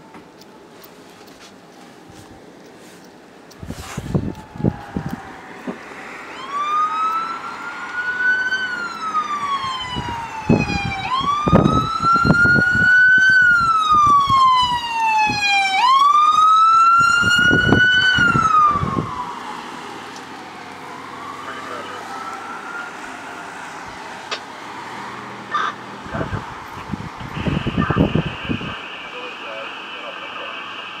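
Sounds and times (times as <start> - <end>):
fire engine siren wailing: 1.6 - 31.0
low vehicle rumble: 1.6 - 31.0.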